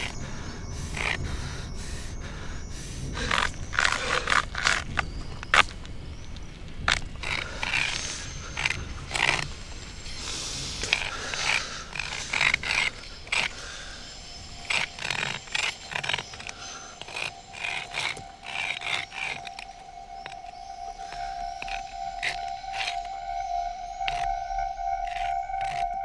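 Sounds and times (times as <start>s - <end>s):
stones and grit scraping: 0.0s - 1.2s, 3.2s - 5.8s, 6.9s - 26.0s
steady held musical tone: 0.0s - 26.0s.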